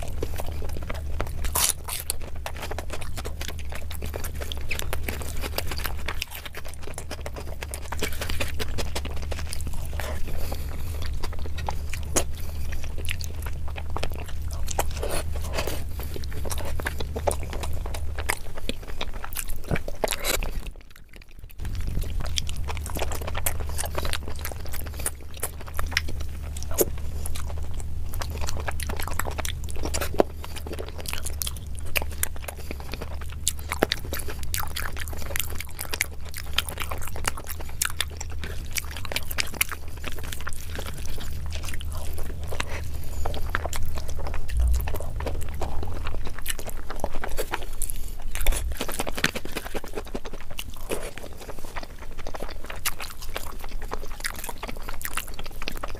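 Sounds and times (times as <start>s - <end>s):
close chewing with mouth smacks: 0.0s - 55.9s
steady low hum: 0.0s - 55.9s.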